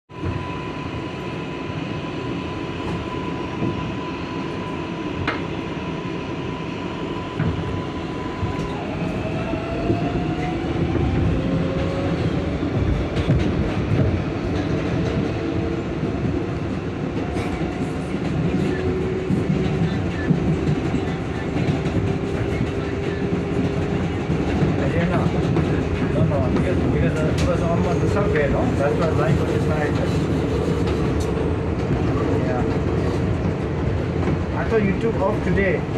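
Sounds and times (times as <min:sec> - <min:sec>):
subway car rumble and rail noise: 0:00.1 - 0:35.9.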